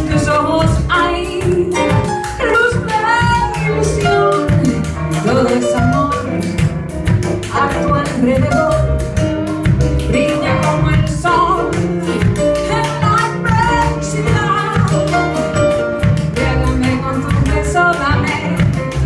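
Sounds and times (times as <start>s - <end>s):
woman singing into microphone: 0.0s - 6.4s, 7.5s - 9.0s, 10.0s - 15.2s, 16.3s - 18.8s
band with drums and keyboard: 0.0s - 19.0s.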